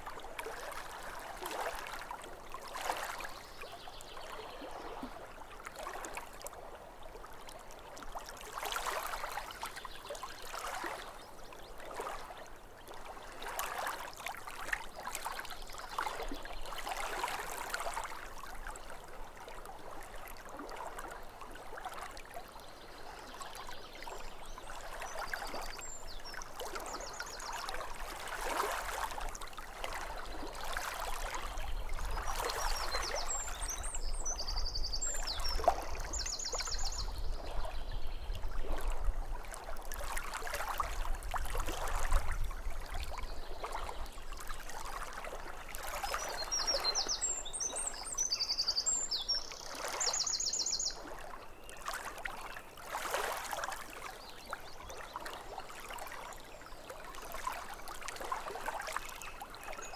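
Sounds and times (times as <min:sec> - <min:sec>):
water lapping at shore: 0:00.0 - 0:59.9.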